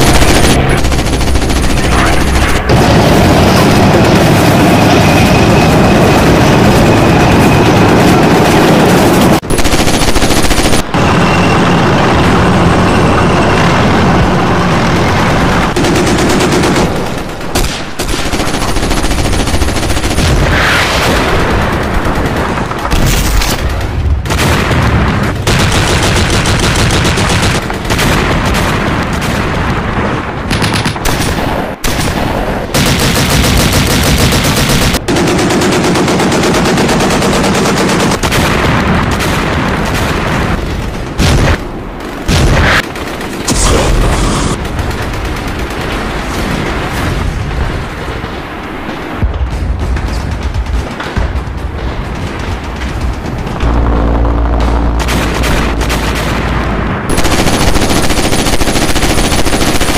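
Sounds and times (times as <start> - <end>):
machine-gun fire: 0.0 - 11.4, 13.6 - 59.9.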